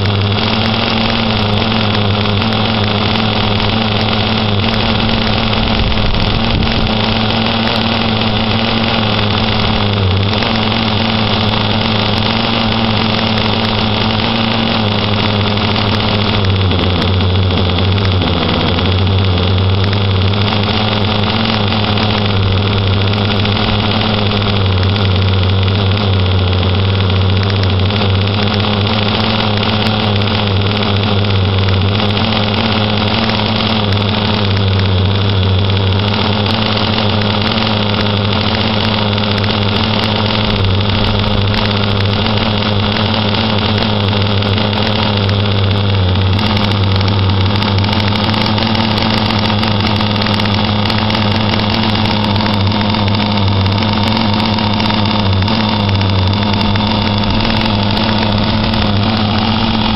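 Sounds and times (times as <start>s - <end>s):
two-stroke engine running: 0.0s - 59.9s.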